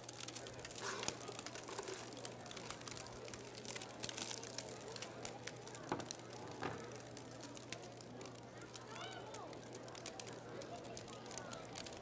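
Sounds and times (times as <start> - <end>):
faint clicks and crinkles: 0.0 - 12.0.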